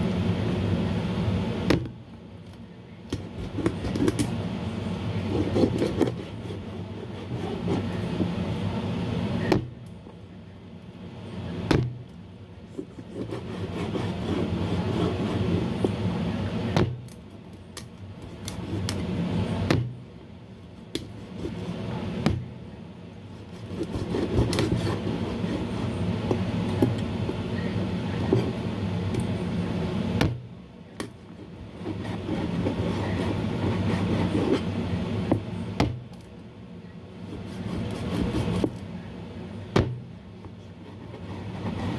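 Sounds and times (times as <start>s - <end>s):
steady background hum: 0.0s - 41.9s.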